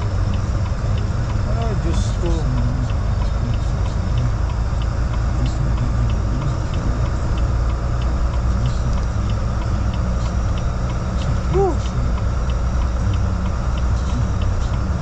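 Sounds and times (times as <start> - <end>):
car driving rumble: 0.0 - 15.0
faint regular ticking: 0.0 - 15.0.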